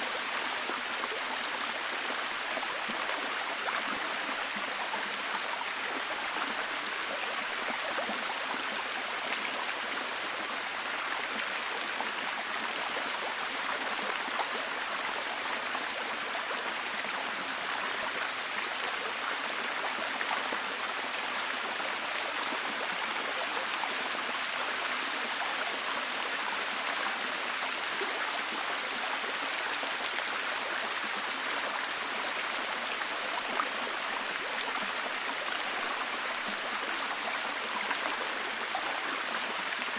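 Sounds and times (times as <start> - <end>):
falling water hiss with drips: 0.0 - 39.9.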